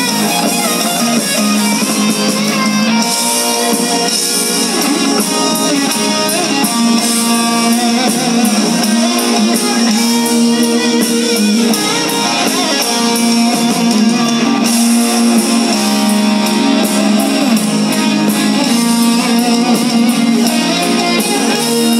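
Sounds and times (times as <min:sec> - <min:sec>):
rock band playing live: 0:00.0 - 0:21.9.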